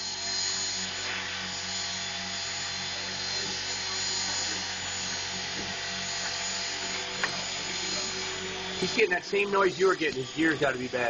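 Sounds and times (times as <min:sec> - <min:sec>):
model helicopter motor whine: 0:00.0 - 0:11.0.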